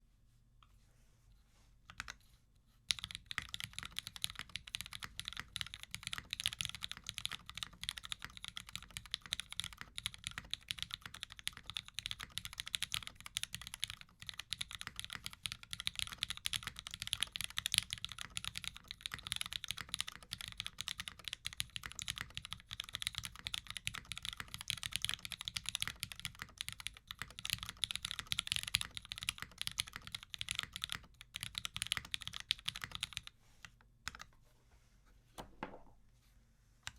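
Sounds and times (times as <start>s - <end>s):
fast typing on mechanical keyboard: 2.9s - 33.3s.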